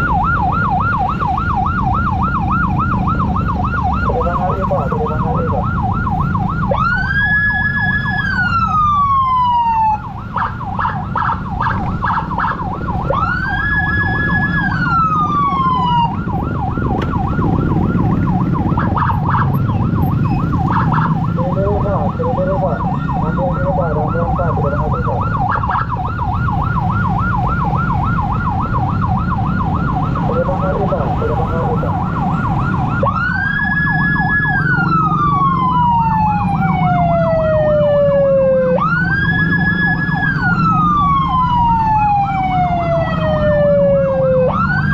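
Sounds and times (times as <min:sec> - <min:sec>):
fast warbling siren: 0:00.0 - 0:44.9
rising and falling siren: 0:00.0 - 0:44.9.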